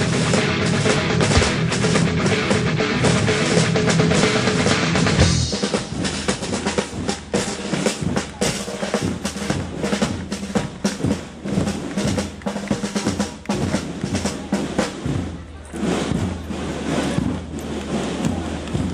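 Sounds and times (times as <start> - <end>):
snare and bass drums marching cadence: 0.0 - 18.9.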